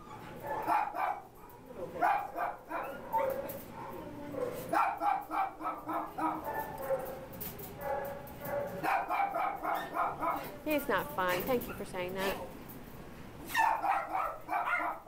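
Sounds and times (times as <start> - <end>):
small dogs barking and yipping: 0.0 - 12.6, 13.4 - 15.0.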